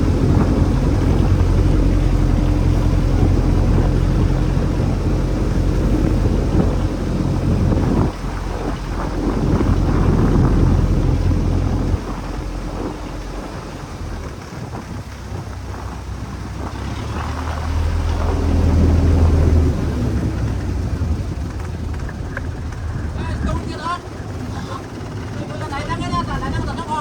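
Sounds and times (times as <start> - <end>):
boat engine humming: 0.0 - 27.0
wind and water rushing: 0.0 - 27.0.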